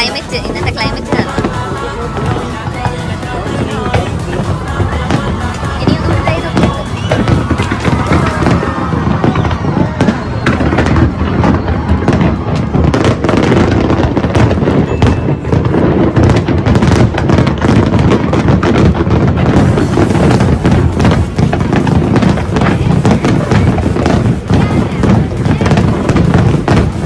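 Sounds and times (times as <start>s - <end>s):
fireworks bangs and crackling: 0.0s - 27.0s.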